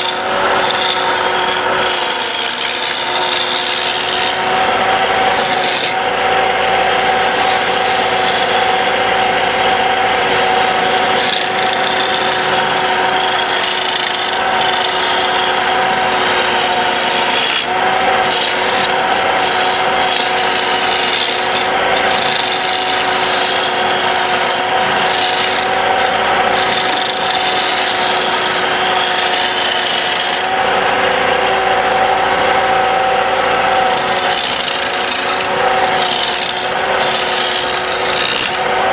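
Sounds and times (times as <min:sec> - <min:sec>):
tool scraping turning wood: 0:00.0 - 0:38.9
wood lathe humming: 0:00.0 - 0:38.9.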